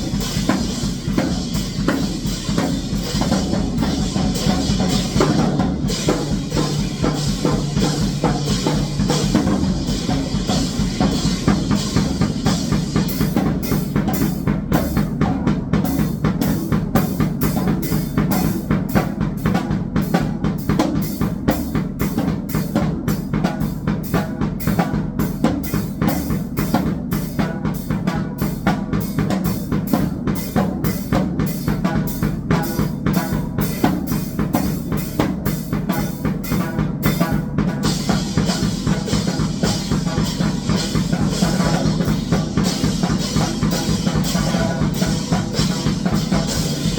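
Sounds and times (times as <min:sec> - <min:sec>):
fast drum kit playing: 0:00.0 - 0:46.9.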